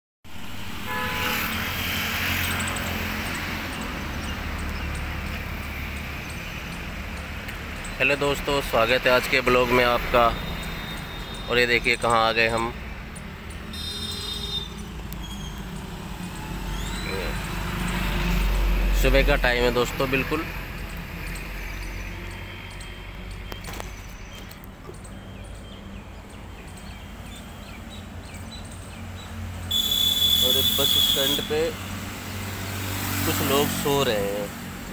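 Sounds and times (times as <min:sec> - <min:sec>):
road noise: 0:00.2 - 0:34.9
birds chirping: 0:00.3 - 0:34.9
vehicle engine hum: 0:00.3 - 0:34.9.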